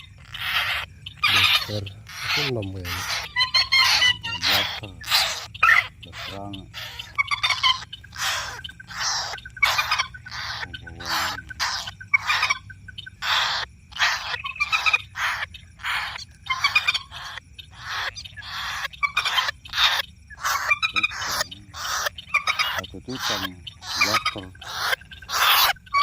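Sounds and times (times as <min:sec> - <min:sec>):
moorhen calling: 0:00.0 - 0:26.0.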